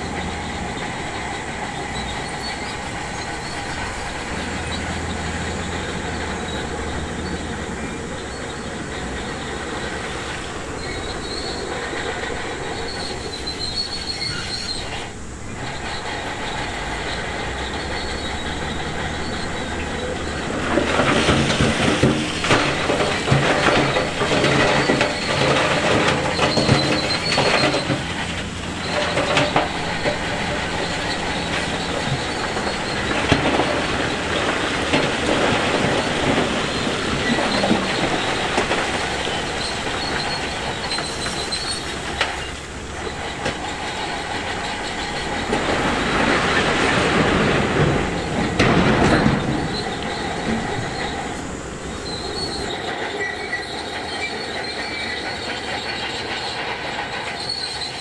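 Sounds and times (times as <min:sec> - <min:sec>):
rock clattering: 0:00.0 - 0:56.5
bulldozer engine and tracks: 0:00.0 - 0:58.0.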